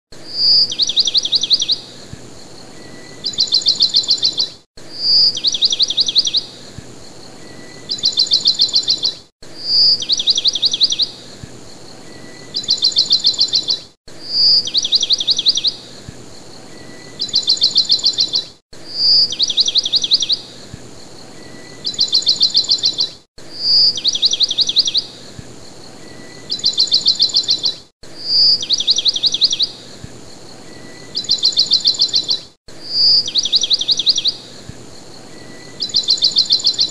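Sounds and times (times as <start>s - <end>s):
bird-like chirping: 0.2s - 36.9s.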